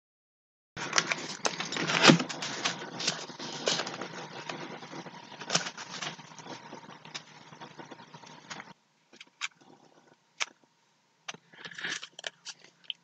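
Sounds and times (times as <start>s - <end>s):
hands handling objects: 0.8s - 9.8s, 11.3s - 13.0s.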